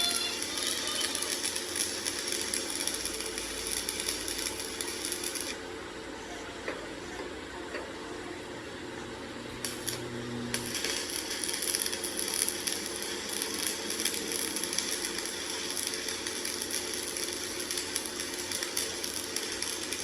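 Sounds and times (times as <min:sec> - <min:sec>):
gritty high hiss with crackle: 0:00.0 - 0:05.7, 0:09.6 - 0:20.0.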